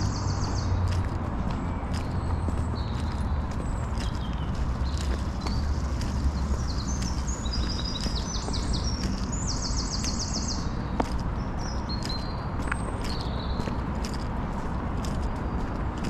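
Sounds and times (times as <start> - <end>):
footsteps on dirt path: 0.0 - 16.0
songbirds singing: 0.0 - 16.0
steady low rumble: 0.0 - 16.0.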